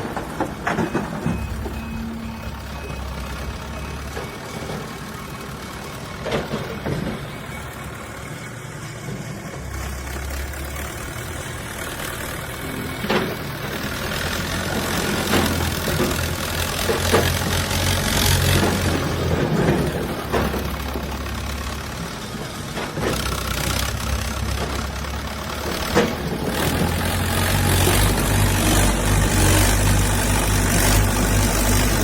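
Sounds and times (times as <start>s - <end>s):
diesel machinery engine running: 0.0s - 32.0s.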